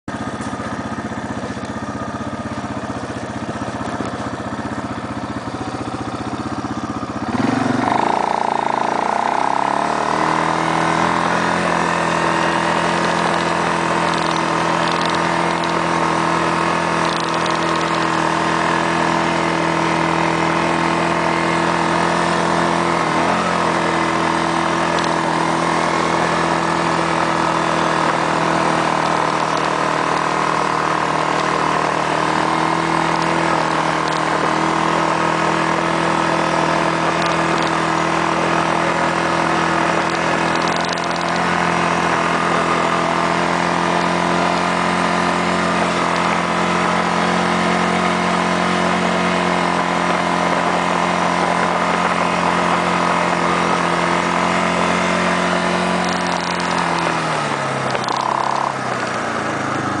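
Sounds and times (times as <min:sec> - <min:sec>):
atv engine driving through snow: 0:00.1 - 1:00.0.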